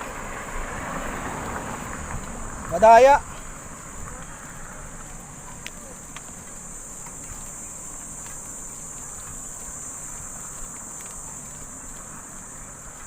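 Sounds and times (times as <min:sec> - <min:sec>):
insect chorus drone: 0:00.0 - 0:13.0
wind and riding rumble: 0:00.0 - 0:13.0.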